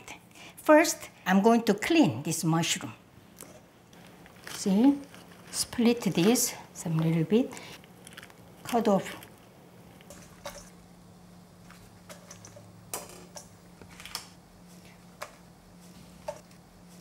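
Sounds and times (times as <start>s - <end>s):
steady low hum: 2.1s - 17.0s.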